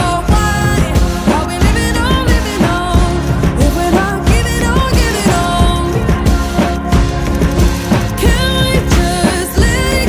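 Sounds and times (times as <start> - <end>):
keyboards: 0.0 - 10.0
programmed drum beat: 0.0 - 10.0.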